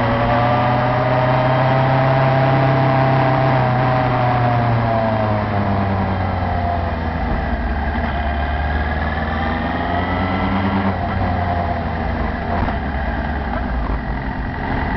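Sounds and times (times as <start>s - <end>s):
small motorcycle engine running: 0.0s - 14.9s.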